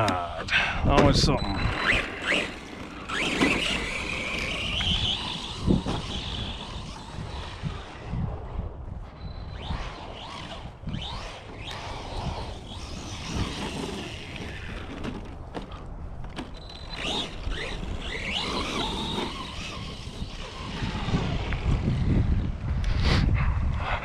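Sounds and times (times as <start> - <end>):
electric motors whining: 1.1 - 22.6.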